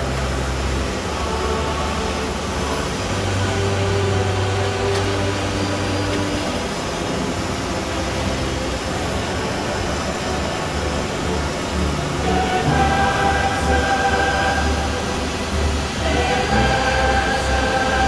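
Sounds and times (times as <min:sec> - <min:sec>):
engine and propeller drone: 0:00.0 - 0:18.0
low hum: 0:00.0 - 0:18.0
ventilation noise: 0:00.0 - 0:18.0.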